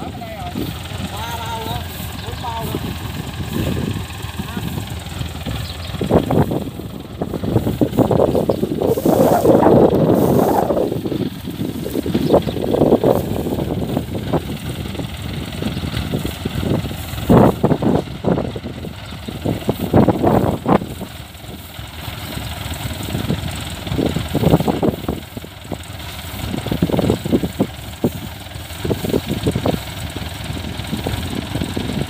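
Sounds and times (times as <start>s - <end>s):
combine harvester engine rumble: 0.0s - 32.0s.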